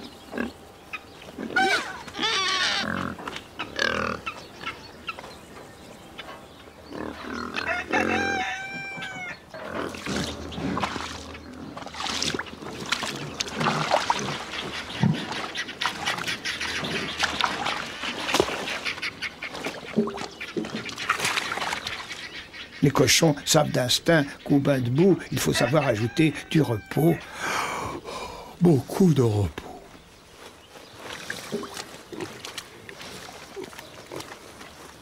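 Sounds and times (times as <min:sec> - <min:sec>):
pigs grunting and snuffling: 0:00.0 - 0:05.4, 0:06.1 - 0:35.0.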